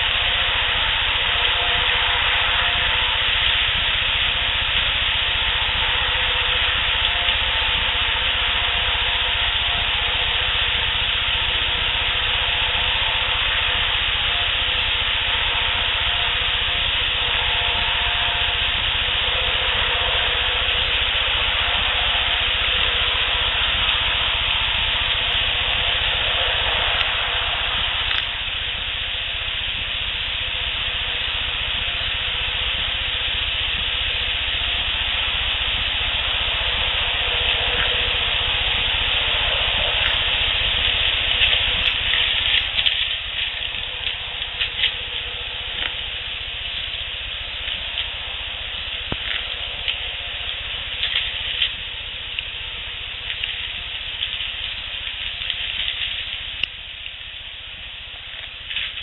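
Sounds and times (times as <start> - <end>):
heavy hiss: 0.0 - 59.0
low rumble: 0.0 - 59.0.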